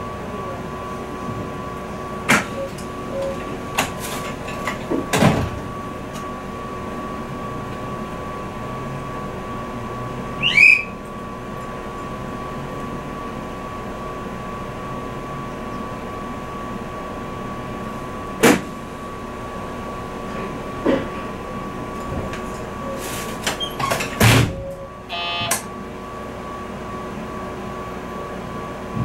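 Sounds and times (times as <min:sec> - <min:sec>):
constant high whine: 0:00.0 - 0:29.0
train equipment hum: 0:00.0 - 0:29.0.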